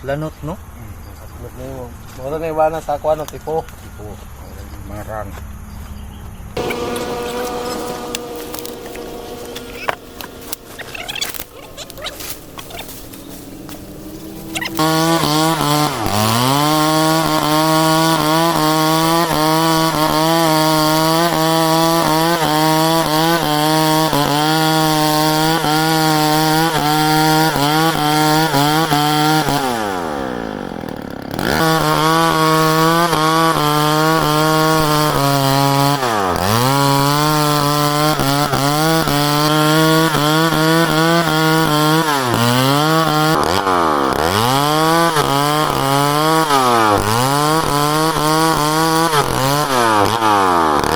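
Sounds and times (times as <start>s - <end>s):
chainsaw cutting wood: 6.6s - 50.9s.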